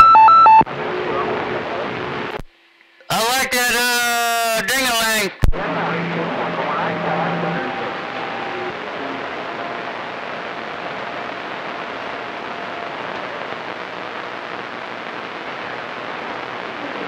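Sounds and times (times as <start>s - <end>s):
radio static hiss: 0.6s - 17.0s.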